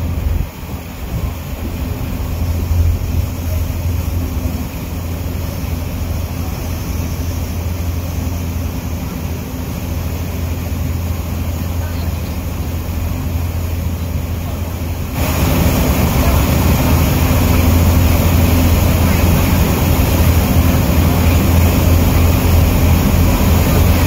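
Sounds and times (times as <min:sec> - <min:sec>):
ferry engine droning: 0:00.0 - 0:24.0.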